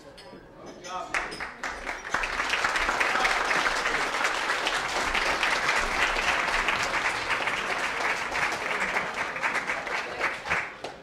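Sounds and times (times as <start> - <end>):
people applauding: 1.1 - 11.0.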